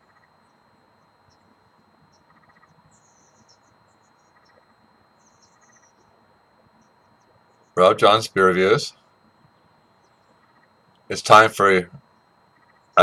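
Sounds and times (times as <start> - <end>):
faint high chirping: 0.0 - 13.0
faint steady high tone: 0.0 - 13.0.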